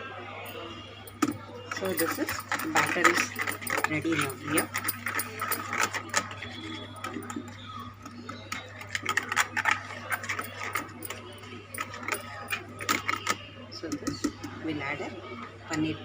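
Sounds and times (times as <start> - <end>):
utensils clinking against bowl: 0.5 - 16.0.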